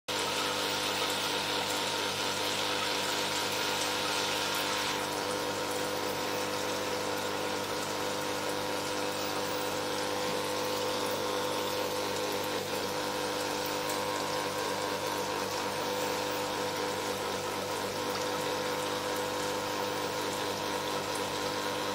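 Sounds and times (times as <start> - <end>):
pump hum: 0.1 - 21.9.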